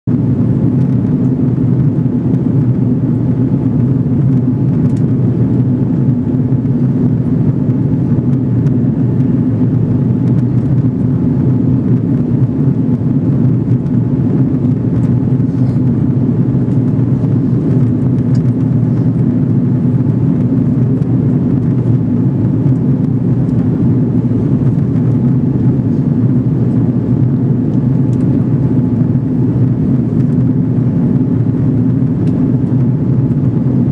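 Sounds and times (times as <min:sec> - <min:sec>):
airliner engine drone: 0:00.1 - 0:33.9.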